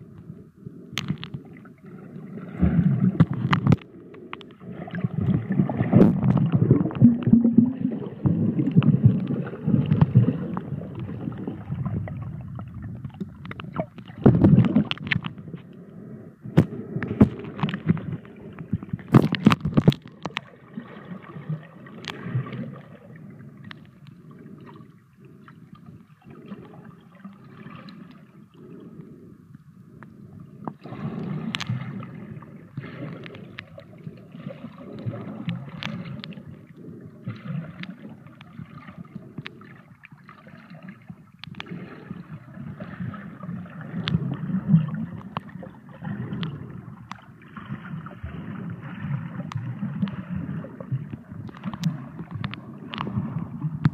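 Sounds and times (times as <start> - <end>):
water gurgling and sloshing: 0.0 - 53.9.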